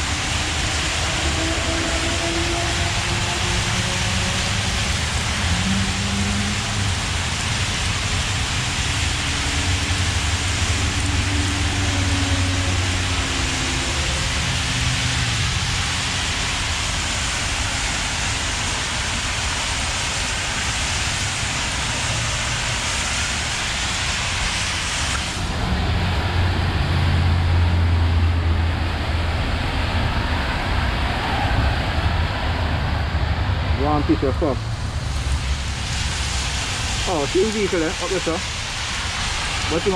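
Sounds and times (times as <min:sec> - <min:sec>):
vehicle engine rumbling close by: 0:00.0 - 0:20.0, 0:25.4 - 0:39.9
rain hiss: 0:00.0 - 0:39.9
wet road traffic: 0:00.0 - 0:39.9.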